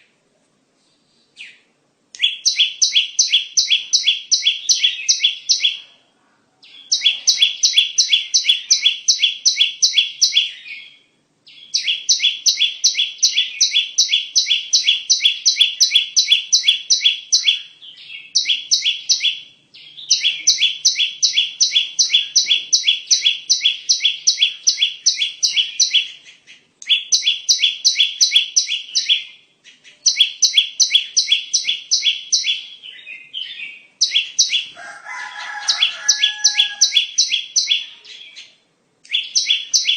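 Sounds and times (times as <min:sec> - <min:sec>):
bird call rapid sharp chirps: 0:02.2 - 0:05.8, 0:06.7 - 0:38.4, 0:39.1 - 0:39.9.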